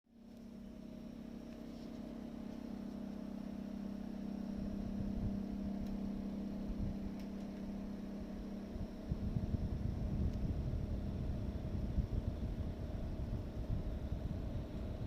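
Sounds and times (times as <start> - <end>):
air conditioner compressor droning: 0.1 - 15.0.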